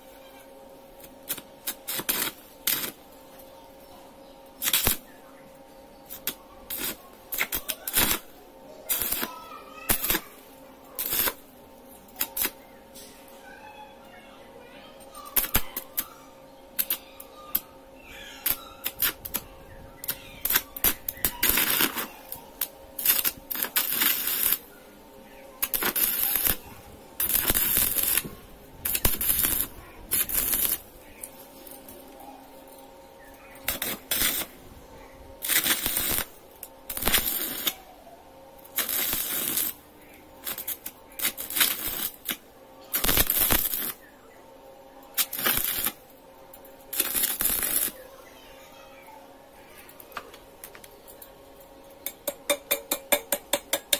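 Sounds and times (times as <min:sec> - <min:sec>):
faint steady hum: 0:00.0 - 0:53.9
welding arc sizzling: 0:00.7 - 0:03.4, 0:04.4 - 0:05.2, 0:06.0 - 0:13.2, 0:15.0 - 0:37.9, 0:38.5 - 0:48.2.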